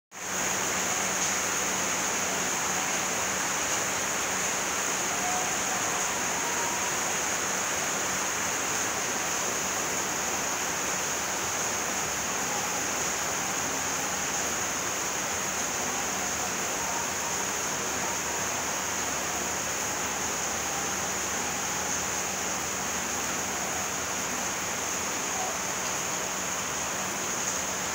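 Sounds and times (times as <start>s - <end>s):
rain falling: 0.1s - 27.9s.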